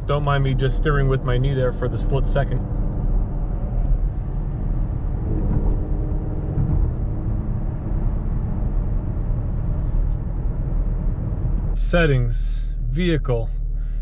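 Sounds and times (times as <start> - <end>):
car engine low drone: 0.0 - 14.0
road noise: 0.0 - 14.0.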